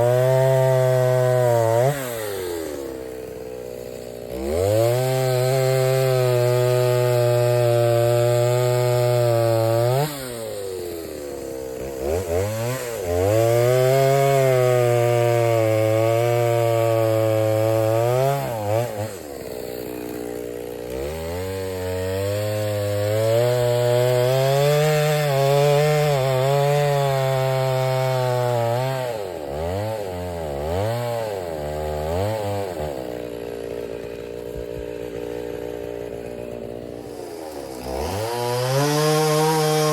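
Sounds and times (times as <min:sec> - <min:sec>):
chainsaw cutting wood: 0:00.0 - 0:39.9
chainsaw throttle blips: 0:00.0 - 0:39.9.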